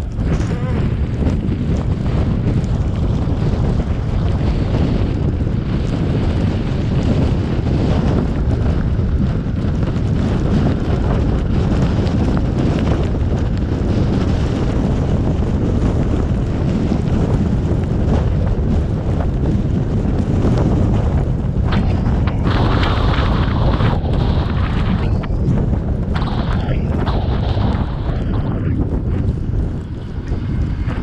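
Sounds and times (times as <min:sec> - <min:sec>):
car rumbling while driving: 0:00.0 - 0:31.0
wind noise on microphone: 0:00.0 - 0:31.0.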